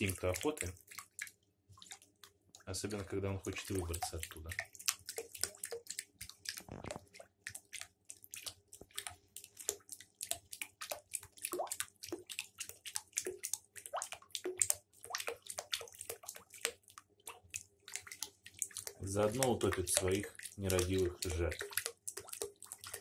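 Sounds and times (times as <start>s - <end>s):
bathwater splashing: 0.0s - 23.0s.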